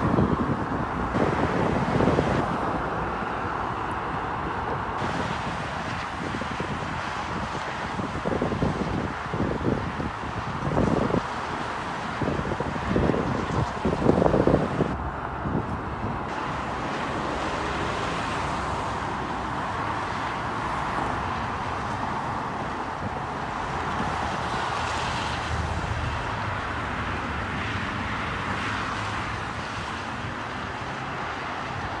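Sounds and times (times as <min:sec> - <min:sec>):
highway traffic hiss: 0:00.0 - 0:32.0.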